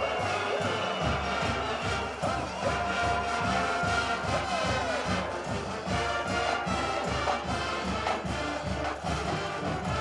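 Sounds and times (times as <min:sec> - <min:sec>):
brass band music: 0:00.0 - 0:10.0
steady drum beat: 0:00.0 - 0:10.0.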